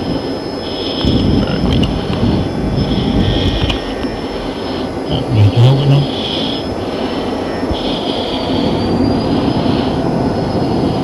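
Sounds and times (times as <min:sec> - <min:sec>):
jet engine roar: 0:00.0 - 0:11.0
thin high whine: 0:00.0 - 0:11.0.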